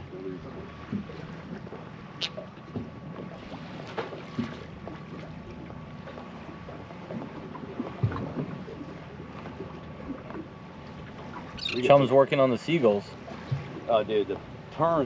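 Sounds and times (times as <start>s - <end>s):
low steady hum: 0.0s - 15.0s
wind: 0.0s - 15.0s.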